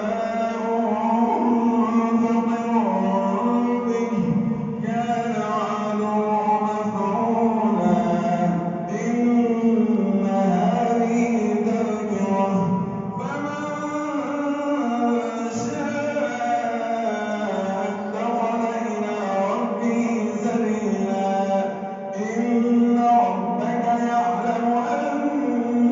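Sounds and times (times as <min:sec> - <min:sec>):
man reciting melodically: 0:00.0 - 0:25.9.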